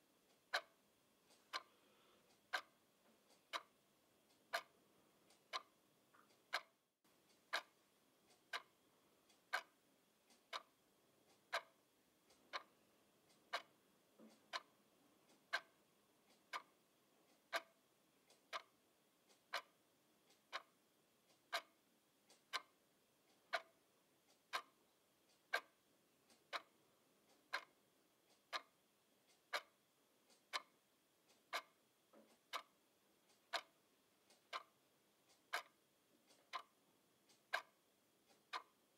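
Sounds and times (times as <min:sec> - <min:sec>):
alarm clock ticking: 0:00.0 - 0:38.9.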